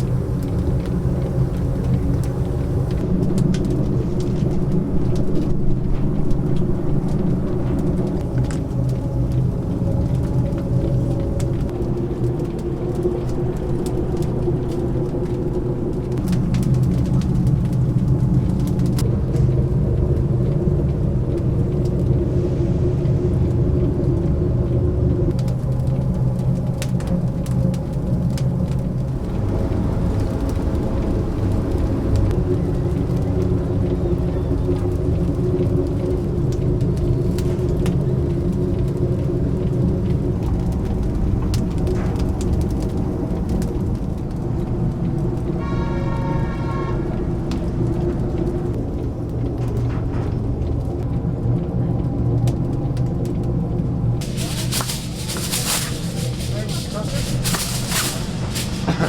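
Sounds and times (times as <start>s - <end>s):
crackling and ticking: 0.0s - 23.2s, 25.3s - 45.6s, 54.2s - 59.0s
low mechanical hum: 0.0s - 59.0s.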